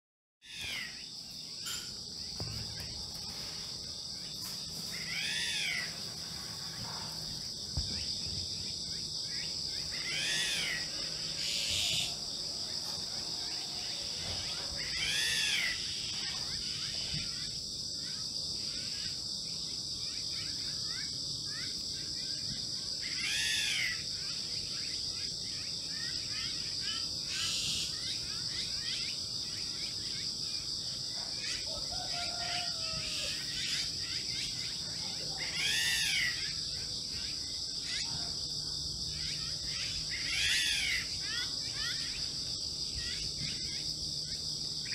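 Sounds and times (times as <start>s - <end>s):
insects shrilling: 0.4s - 19.2s, 23.0s - 44.9s.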